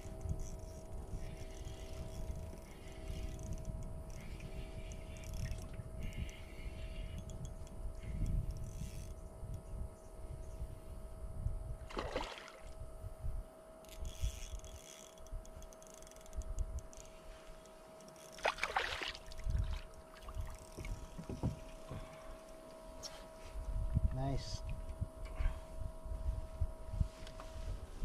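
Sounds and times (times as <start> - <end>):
wind rumble on microphone: 0.0 - 17.4, 18.5 - 22.4, 23.3 - 28.0.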